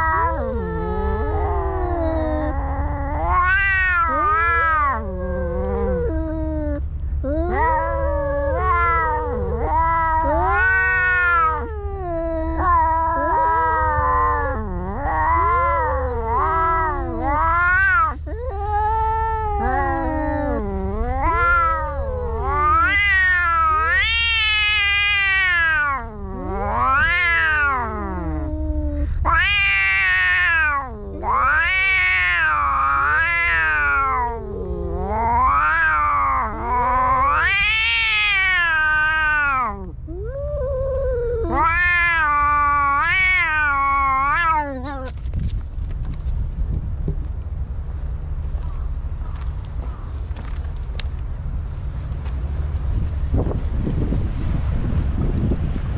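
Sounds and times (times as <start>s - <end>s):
cats yowling: 0.0s - 45.5s
steady low hum: 0.0s - 55.9s.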